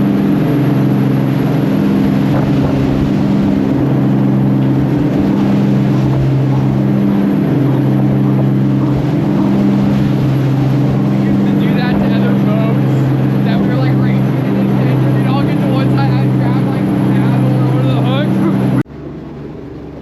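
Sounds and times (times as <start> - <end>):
boat engines droning: 0.0 - 20.0
water hissing against hull: 0.0 - 20.0.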